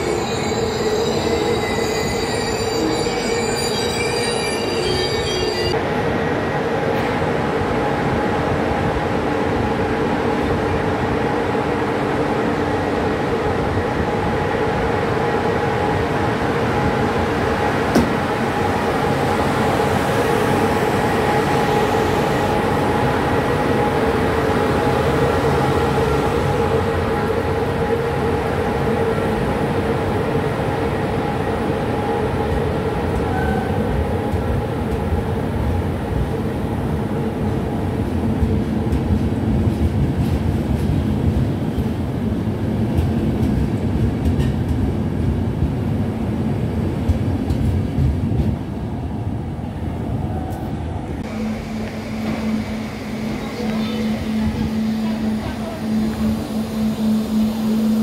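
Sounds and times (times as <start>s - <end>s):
electric locomotive hum: 0.0s - 58.0s
train wheels rumbling on track: 0.0s - 58.0s.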